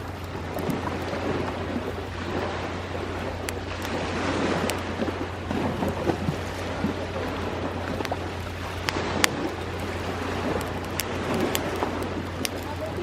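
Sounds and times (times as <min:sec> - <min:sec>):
bonfire crackling: 0:00.0 - 0:13.0
sea waves on shore: 0:00.0 - 0:13.0.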